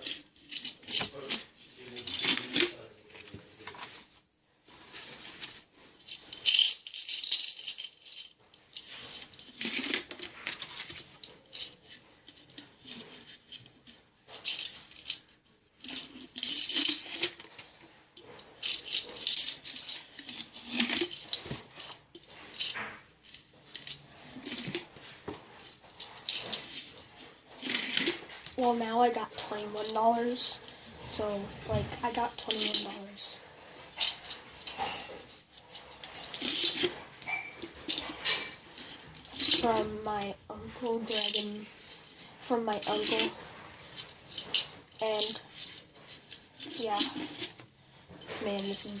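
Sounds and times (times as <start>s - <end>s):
banknotes rustling and flicking: 0.0s - 49.0s.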